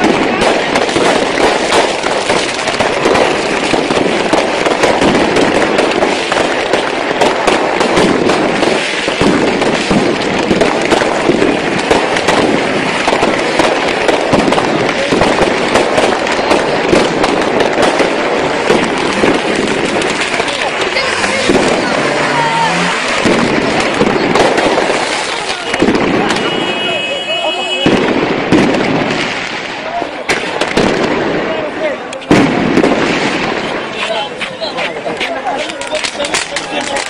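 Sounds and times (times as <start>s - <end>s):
fireworks cracking and banging: 0.0s - 37.0s.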